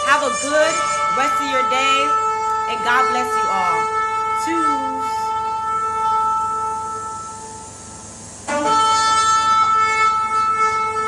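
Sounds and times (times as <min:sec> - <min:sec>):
trumpet blasts: 0:00.0 - 0:11.0.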